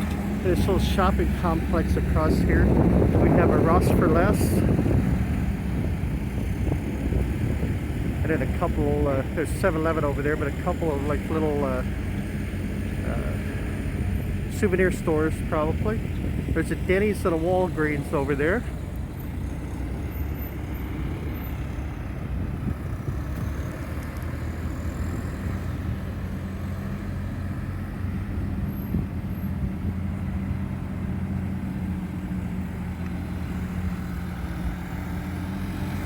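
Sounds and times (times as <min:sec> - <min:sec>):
low engine drone: 0:00.0 - 0:36.0
road traffic rumbling: 0:00.0 - 0:36.0.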